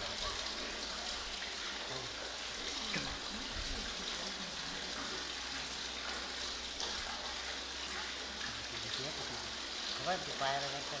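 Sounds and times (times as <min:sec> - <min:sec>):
water trickling in a stone well: 0:00.0 - 0:11.0.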